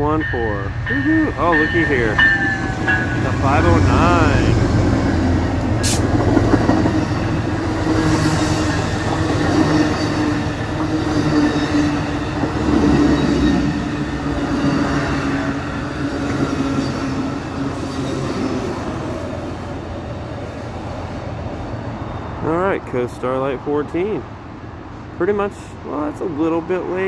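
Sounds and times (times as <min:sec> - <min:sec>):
train wheels rumbling on rails: 0:00.0 - 0:22.1
train humming tone: 0:00.0 - 0:22.6.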